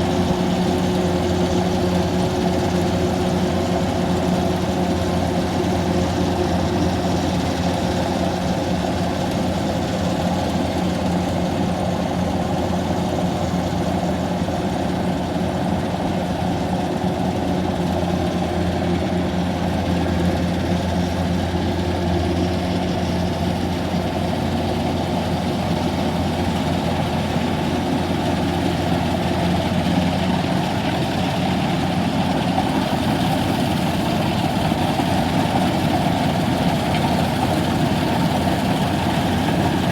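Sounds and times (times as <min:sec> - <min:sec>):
harvester engine droning: 0:00.0 - 0:39.9.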